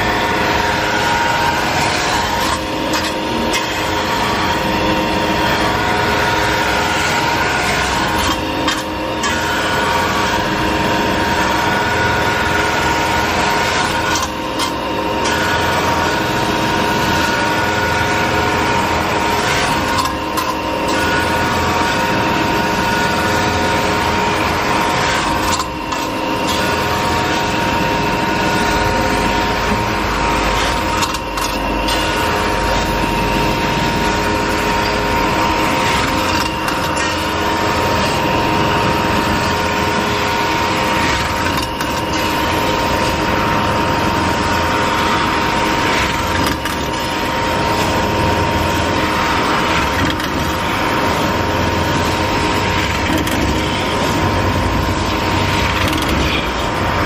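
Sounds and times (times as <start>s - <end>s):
lathe spindle whining: 0.0s - 57.0s.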